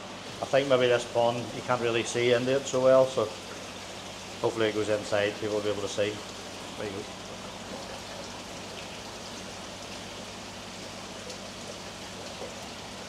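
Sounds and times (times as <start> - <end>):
low steady hum: 0.0 - 13.0
water splashing onto pond: 0.1 - 13.0.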